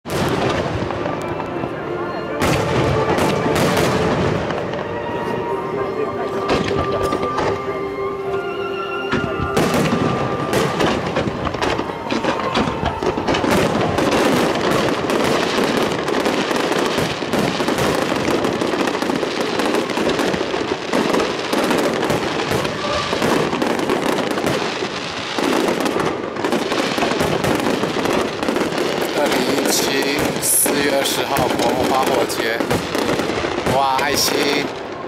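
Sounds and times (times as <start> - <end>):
fireworks bursting: 0.0 - 35.0
crackle of bangs and pops: 0.1 - 1.6, 2.4 - 4.9, 9.1 - 35.0.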